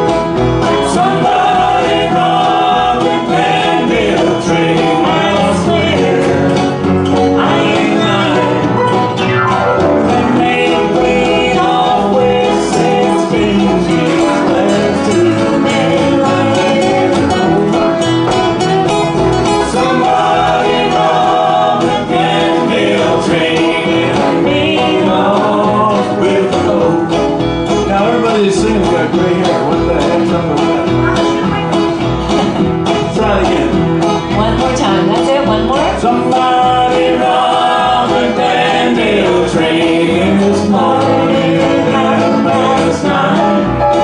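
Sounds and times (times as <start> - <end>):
acoustic guitars strumming: 0.0 - 44.0
voices singing: 0.0 - 44.0.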